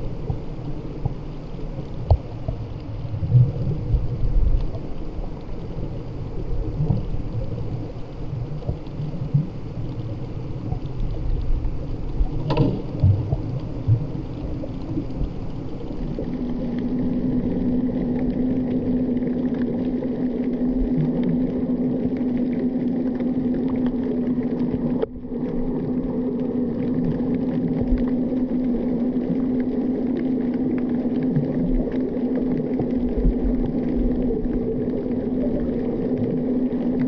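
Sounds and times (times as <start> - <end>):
motorboat engine hum underwater: 0.0 - 37.0
underwater rumble of moving water: 0.0 - 37.0.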